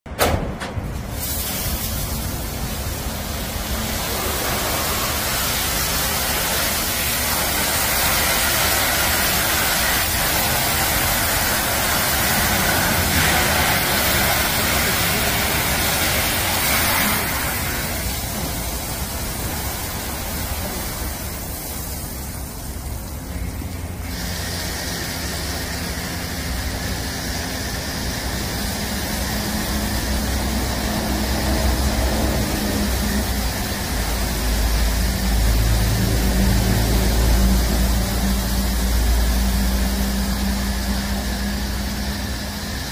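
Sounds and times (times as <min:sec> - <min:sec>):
foam spraying: 0:01.0 - 0:42.9
high-pressure water spraying: 0:01.0 - 0:42.9.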